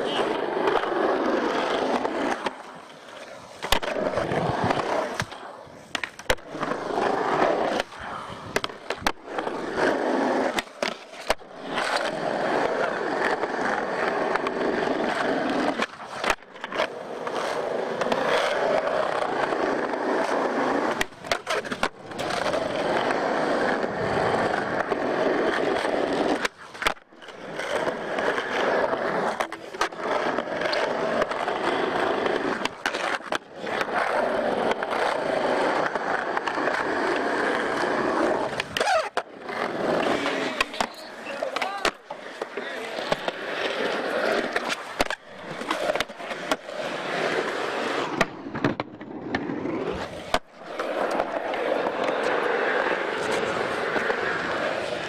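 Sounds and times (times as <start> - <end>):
skateboard clacks: 0.0 - 55.0
skateboard wheels rolling on concrete: 0.0 - 55.0.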